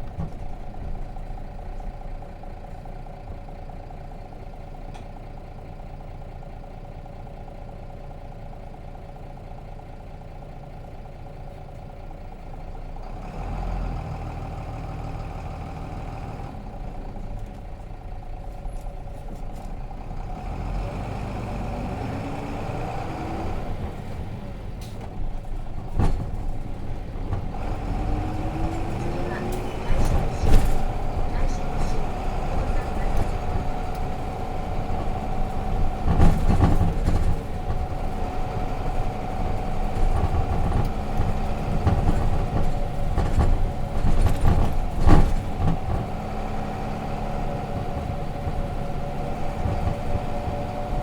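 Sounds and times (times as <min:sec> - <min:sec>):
diesel bus engine: 0:00.0 - 0:51.0.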